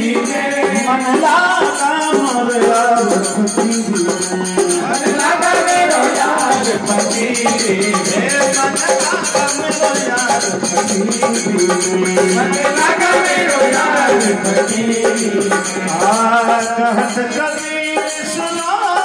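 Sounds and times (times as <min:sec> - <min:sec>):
hand drum beat: 0:00.0 - 0:19.0
harmonium melody: 0:00.0 - 0:19.0
jingling hand percussion: 0:00.0 - 0:19.0.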